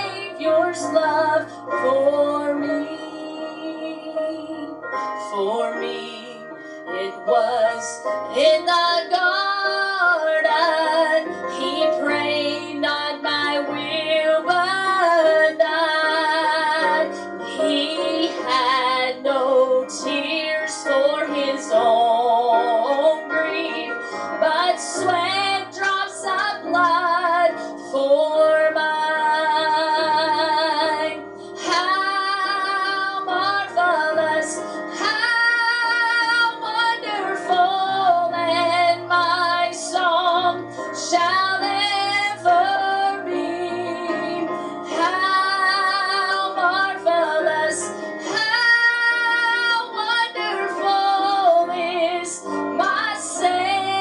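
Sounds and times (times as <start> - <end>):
instrumental accompaniment: 0.0 - 54.0
woman singing a gospel hymn: 0.0 - 54.0.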